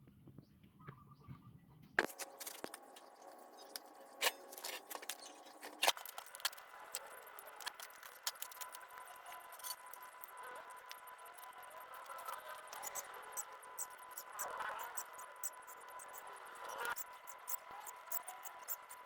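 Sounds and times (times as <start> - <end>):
faint steady tone: 2.7 - 19.0.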